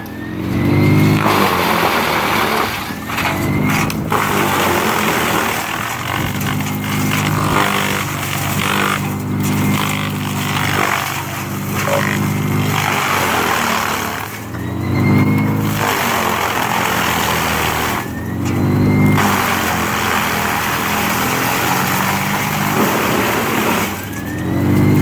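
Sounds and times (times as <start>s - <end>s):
large engine humming: 0.0s - 25.0s.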